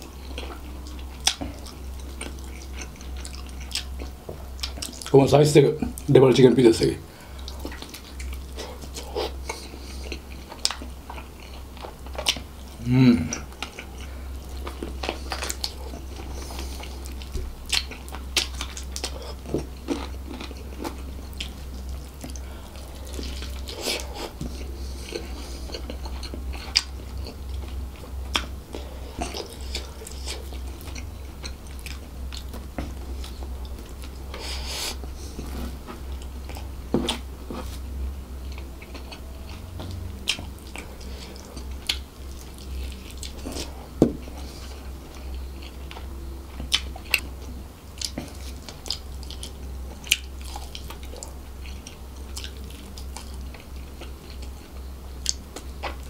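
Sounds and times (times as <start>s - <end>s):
biting and chewing food: 7.4s - 56.0s.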